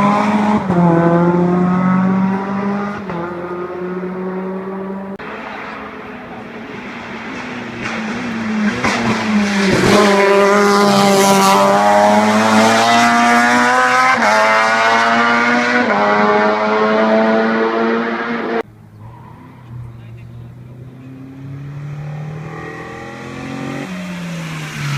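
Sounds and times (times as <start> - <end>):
race car engine at full throttle: 0.0 - 24.9.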